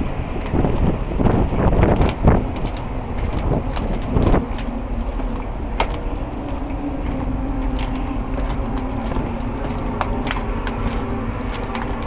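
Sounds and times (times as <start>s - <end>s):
ship engine rumble and hum: 0.0s - 12.0s.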